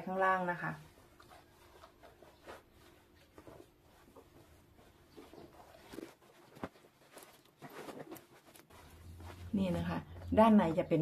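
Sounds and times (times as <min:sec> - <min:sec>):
rustling of denim fabric: 0:00.1 - 0:11.0.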